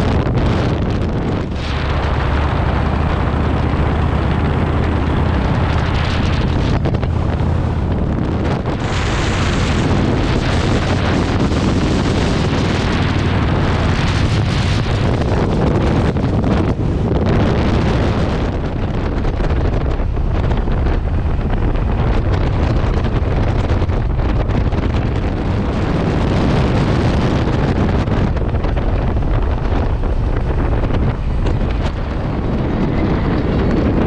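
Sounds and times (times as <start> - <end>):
motorcycle engine drone: 0.0 - 34.0
wind rushing over microphone: 0.0 - 34.0.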